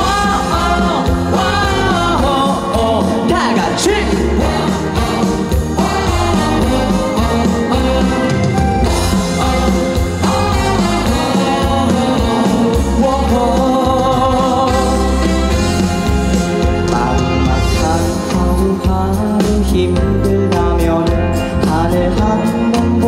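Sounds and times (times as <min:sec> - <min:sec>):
live band playing pop song: 0:00.0 - 0:23.0
person singing: 0:00.0 - 0:23.0.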